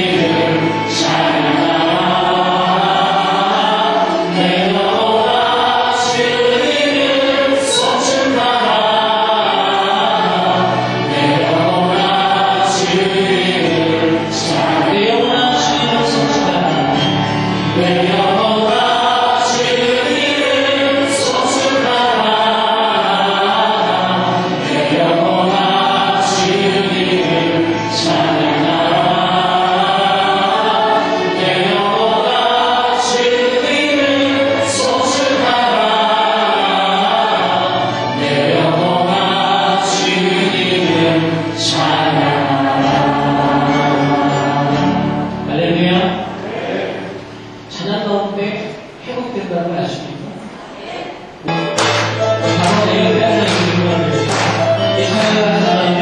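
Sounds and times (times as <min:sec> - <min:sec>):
vocal ensemble singing: 0:00.0 - 0:49.2, 0:50.0 - 0:56.0.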